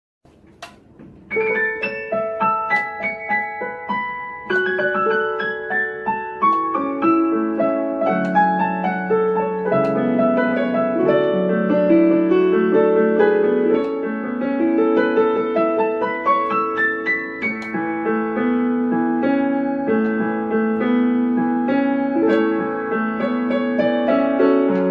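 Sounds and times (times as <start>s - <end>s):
digital piano playing: 0.6s - 24.9s.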